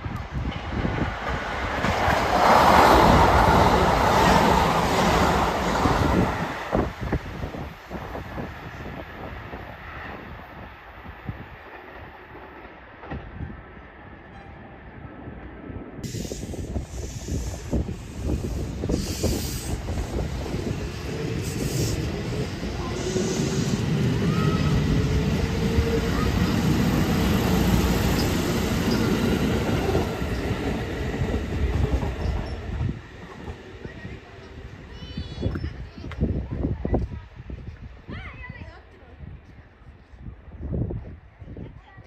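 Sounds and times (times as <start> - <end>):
electric train passing: 0.0 - 36.7.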